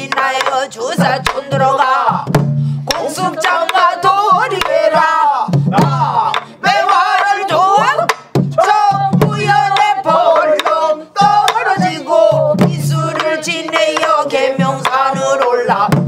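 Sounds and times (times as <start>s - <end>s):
men and women singing: 0.0s - 16.0s.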